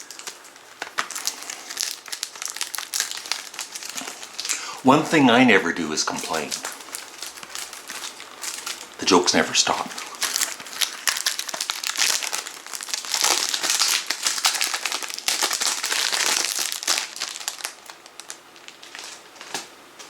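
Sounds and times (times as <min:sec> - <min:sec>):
cd packaging crinkling: 0:00.0 - 0:20.0.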